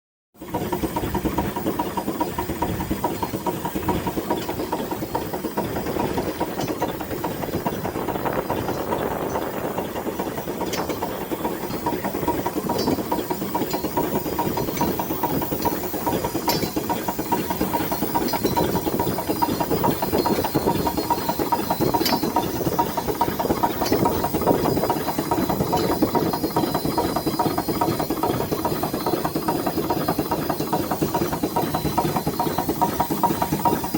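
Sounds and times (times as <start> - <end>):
steam engine running: 0.4 - 33.9.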